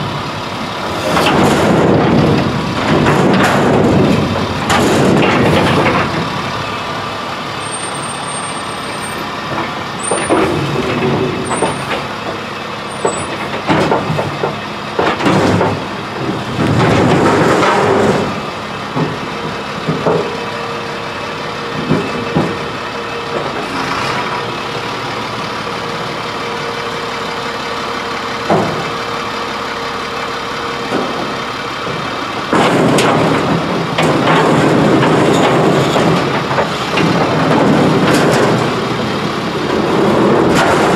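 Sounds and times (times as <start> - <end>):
garbage truck running: 0.0 - 40.9.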